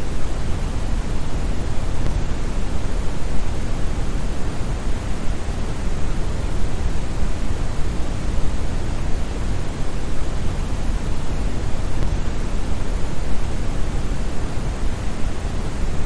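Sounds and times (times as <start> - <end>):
deep brown noise hiss: 0.0 - 16.0.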